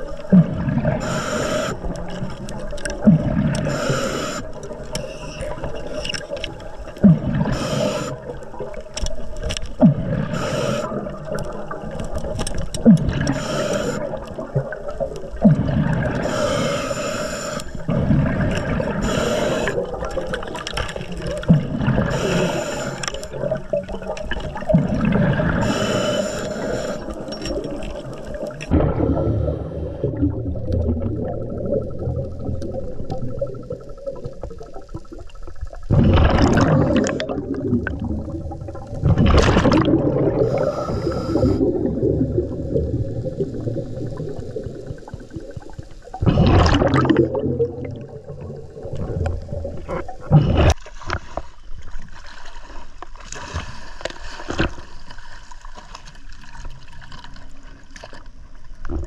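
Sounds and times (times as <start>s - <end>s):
underwater bubbling rushes: 0.0s - 59.0s
underwater low rumble: 0.0s - 59.0s.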